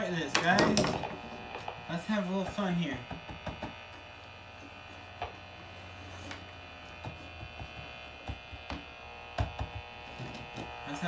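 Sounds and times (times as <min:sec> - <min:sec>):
electrical hum and buzz: 0:00.0 - 0:11.0.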